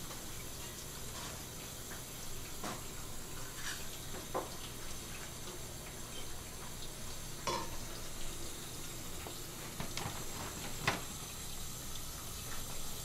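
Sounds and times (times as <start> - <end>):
tap water running onto fish: 0.0 - 13.0.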